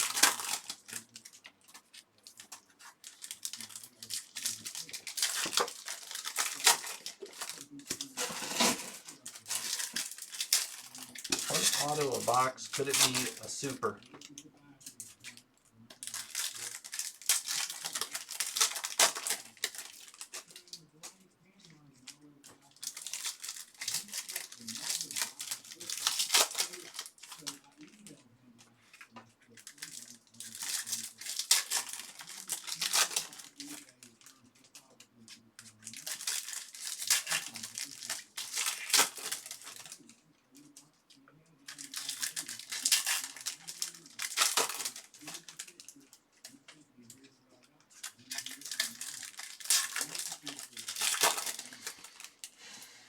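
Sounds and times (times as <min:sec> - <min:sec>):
wrappers torn and crinkled: 0:00.0 - 0:52.8.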